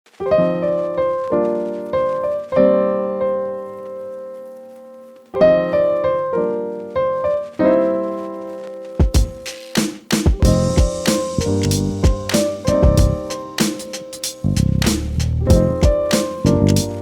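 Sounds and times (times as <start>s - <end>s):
electric piano chords: 0.1s - 17.0s.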